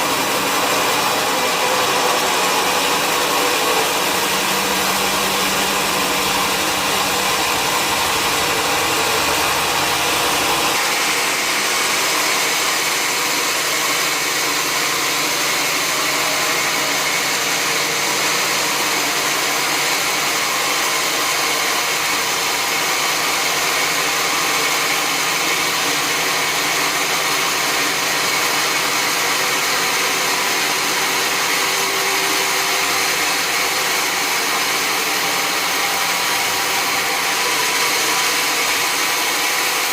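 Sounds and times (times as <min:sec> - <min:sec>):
log saw running: 0:00.0 - 0:39.9.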